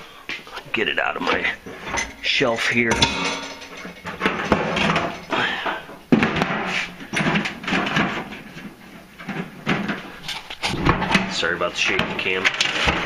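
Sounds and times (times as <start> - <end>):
items clattering on shelf: 1.2 - 13.0.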